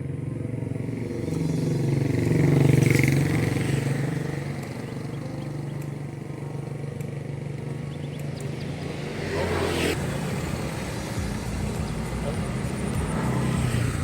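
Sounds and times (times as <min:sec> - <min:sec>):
motorcycle passing by: 0:00.0 - 0:14.0.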